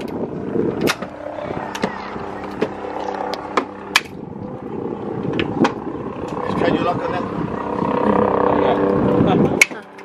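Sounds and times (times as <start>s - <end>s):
low drone: 0.0s - 10.0s.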